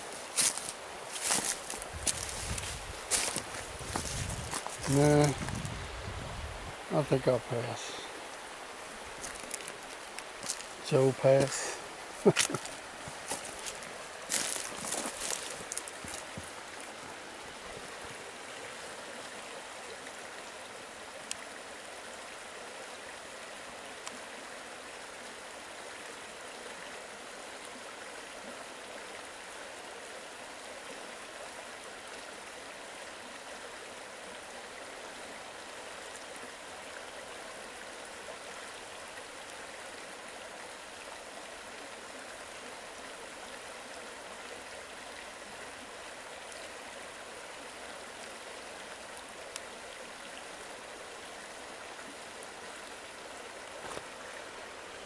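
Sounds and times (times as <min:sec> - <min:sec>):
creek water rushing over rapids: 0:00.0 - 0:55.0.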